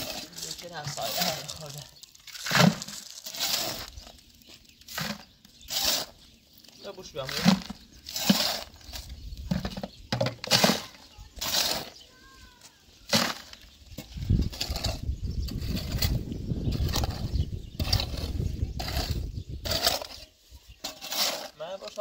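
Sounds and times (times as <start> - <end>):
cement scraping in plastic bucket: 0.0 - 22.0.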